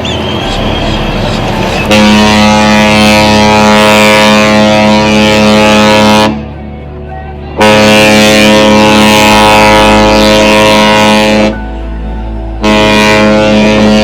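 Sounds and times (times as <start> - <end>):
ship horn long blast: 0.4 - 14.0.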